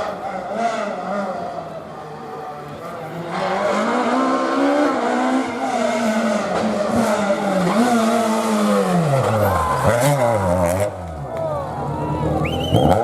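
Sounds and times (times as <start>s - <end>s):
rally car engine revving hard: 0.0s - 2.4s, 3.0s - 11.2s.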